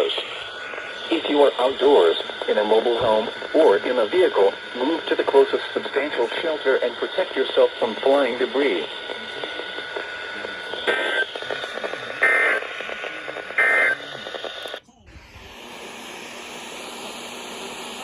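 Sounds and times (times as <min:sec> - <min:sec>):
digital data tones: 0:00.0 - 0:14.8
radio hiss: 0:00.0 - 0:18.0.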